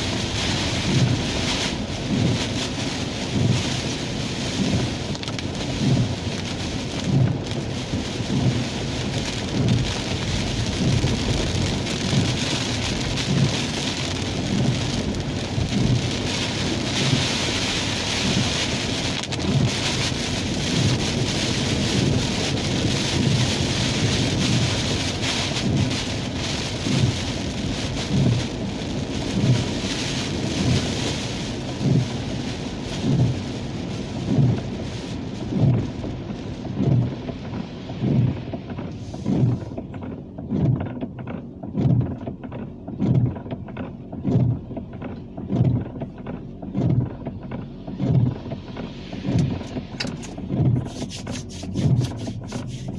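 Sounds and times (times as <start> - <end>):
rain on a car: 0.0 - 52.9.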